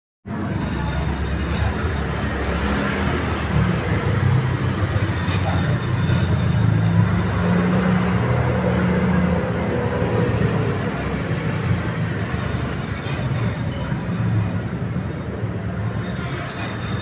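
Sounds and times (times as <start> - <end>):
car driving with low drone: 0.3 - 17.0.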